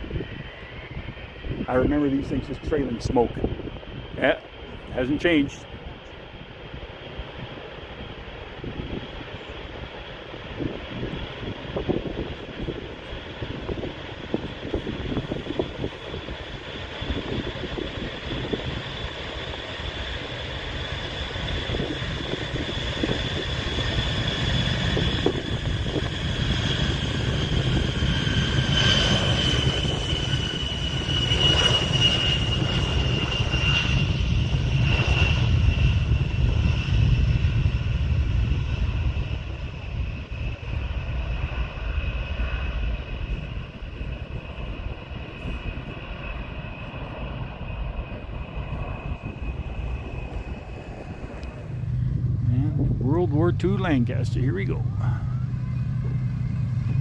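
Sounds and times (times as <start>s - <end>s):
airplane engines rumbling and whining: 0.0s - 57.0s.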